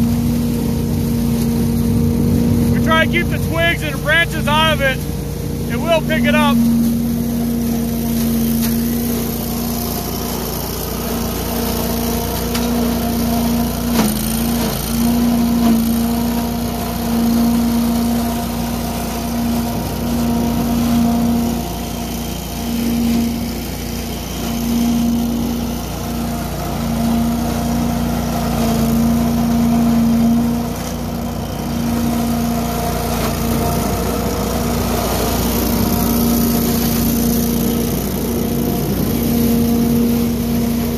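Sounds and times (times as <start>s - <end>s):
debris loader engine humming: 0.0s - 40.9s
hose vacuuming leaves: 0.0s - 40.9s.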